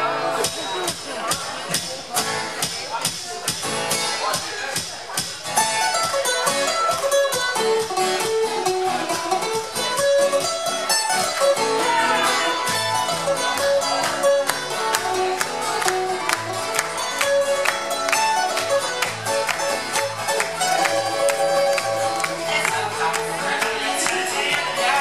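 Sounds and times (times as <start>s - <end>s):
acoustic guitars folk music: 0.0s - 25.0s.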